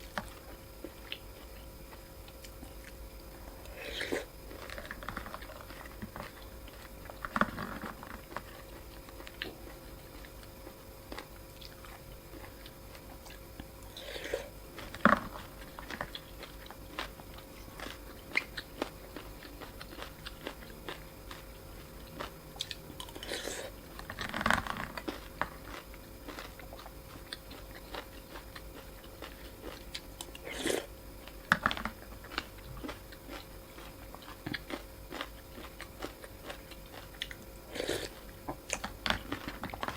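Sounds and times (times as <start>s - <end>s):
loud eating noise: 0.0s - 39.9s
person chewing noodles: 0.0s - 39.9s.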